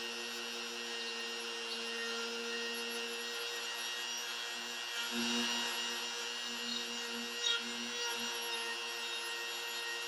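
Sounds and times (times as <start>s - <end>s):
router motor whine: 0.0s - 10.0s.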